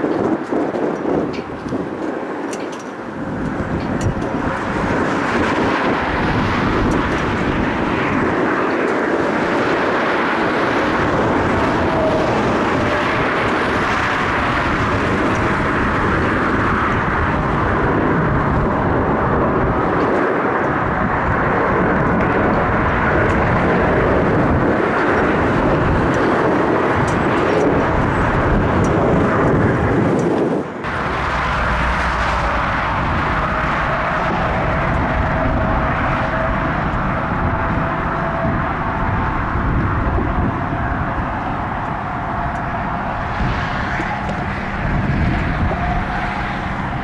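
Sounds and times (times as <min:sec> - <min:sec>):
jet airliner engine rumble: 0:00.0 - 0:47.0.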